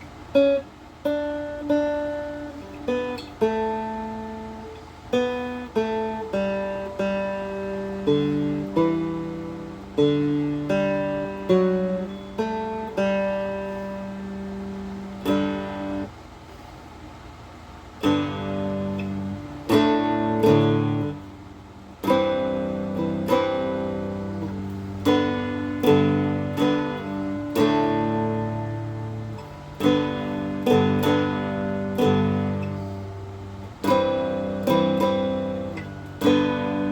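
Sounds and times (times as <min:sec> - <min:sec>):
guitar chords ringing: 0:00.0 - 0:16.8, 0:17.6 - 0:36.9.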